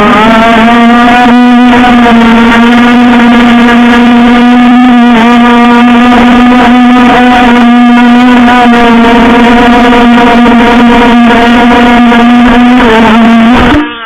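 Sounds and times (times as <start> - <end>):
model boat motor whining: 0.0 - 14.0.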